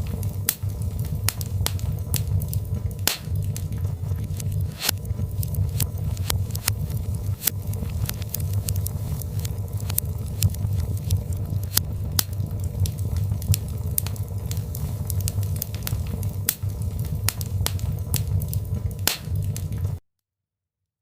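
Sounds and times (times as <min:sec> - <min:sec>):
log fire crackling and popping: 0:00.0 - 0:20.0
rumble of flames: 0:00.0 - 0:20.0.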